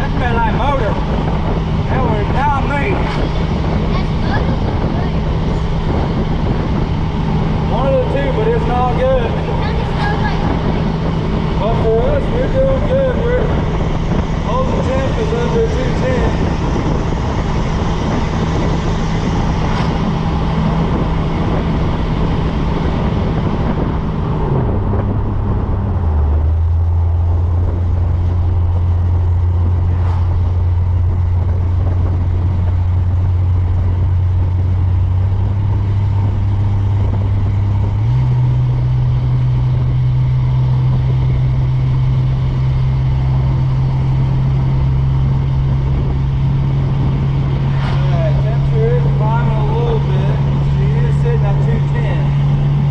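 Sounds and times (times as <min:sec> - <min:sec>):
engine droning while driving: 0:00.0 - 0:52.9.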